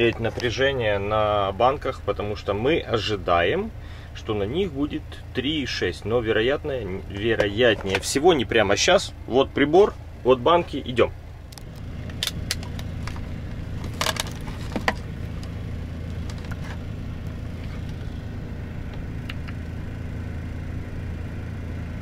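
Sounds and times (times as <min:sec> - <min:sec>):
light rattle of leads: 0:00.0 - 0:21.2
steady low hum: 0:00.0 - 0:22.0.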